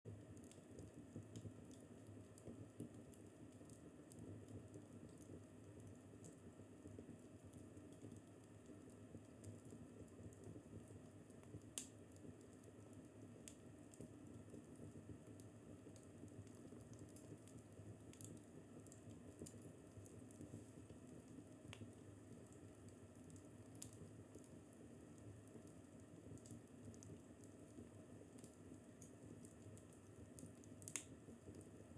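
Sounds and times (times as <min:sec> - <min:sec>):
wood fire crackling: 0:00.1 - 0:31.9.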